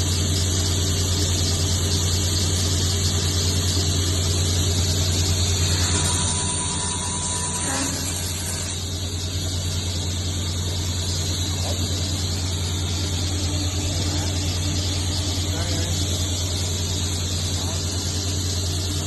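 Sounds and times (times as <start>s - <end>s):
table saw running: 0.0s - 19.0s
thin high whine: 2.8s - 19.0s.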